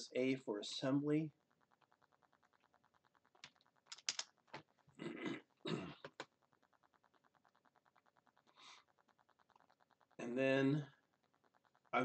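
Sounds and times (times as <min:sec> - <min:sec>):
faint fast ticking buzz: 0:00.1 - 0:12.0.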